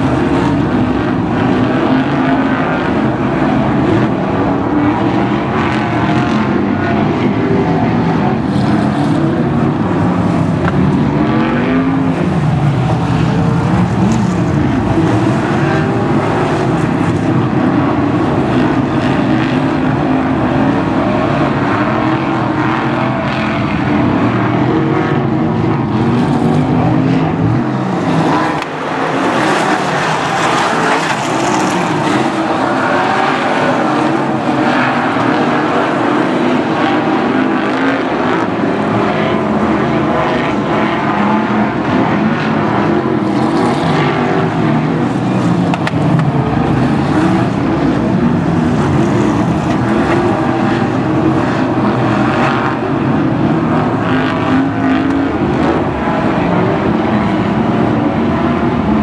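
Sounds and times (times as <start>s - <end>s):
race car engines revving: 0.0s - 59.0s.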